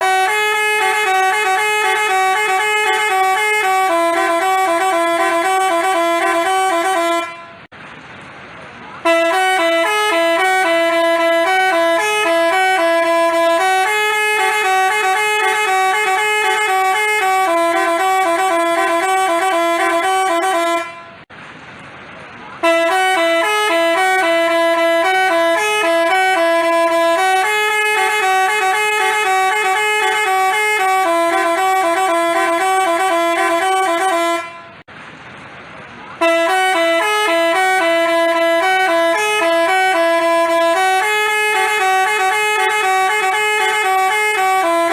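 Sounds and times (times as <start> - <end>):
multi-tone bus horn tune: 0.0 - 7.8, 9.0 - 21.3, 22.5 - 34.9, 36.2 - 44.9.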